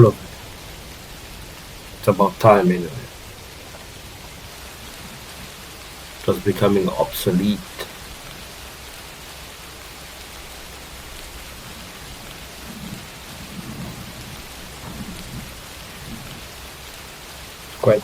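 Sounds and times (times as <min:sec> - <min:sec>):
soft low rumbles: 0:00.0 - 0:18.0
wind blowing: 0:00.0 - 0:18.0.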